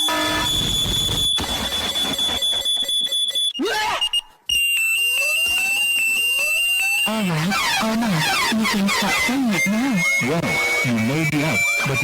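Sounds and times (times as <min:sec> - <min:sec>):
rapidly pulsing alarm beep: 0:00.0 - 0:12.0.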